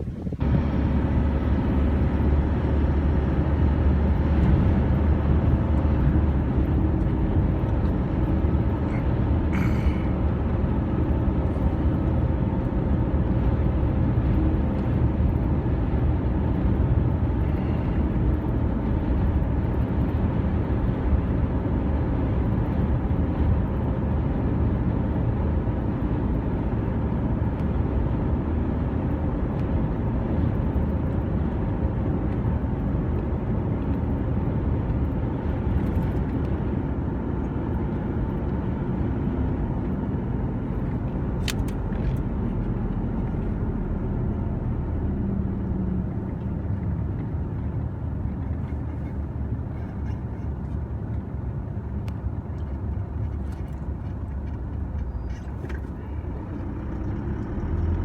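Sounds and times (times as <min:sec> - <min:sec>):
vehicle rumbling in motion: 0:00.0 - 0:58.0.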